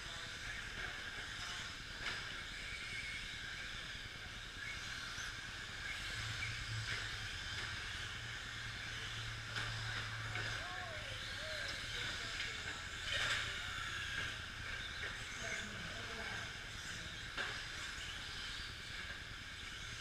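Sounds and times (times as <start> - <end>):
rc trucks motor whine: 0.0 - 20.0.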